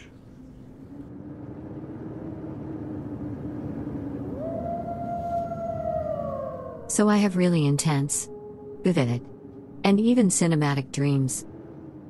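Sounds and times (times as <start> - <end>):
dark ambient rumble: 0.0 - 12.0
faint steady hum: 0.0 - 12.0
siren-like wail: 0.9 - 12.0.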